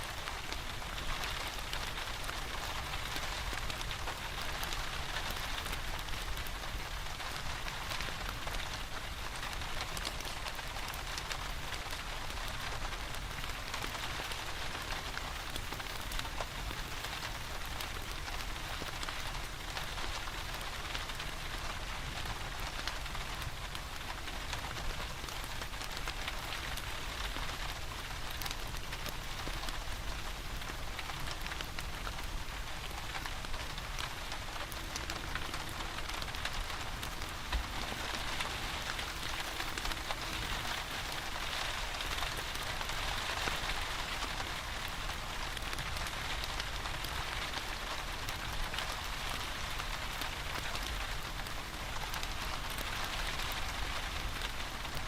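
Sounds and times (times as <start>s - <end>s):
steady rain falling: 0.0s - 55.0s
wood fire crackling: 0.1s - 55.0s.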